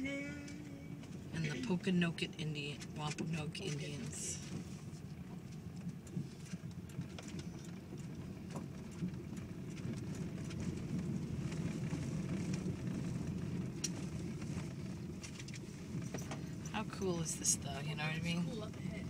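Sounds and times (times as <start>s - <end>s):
tyres rumbling on dirt road: 0.0s - 19.0s.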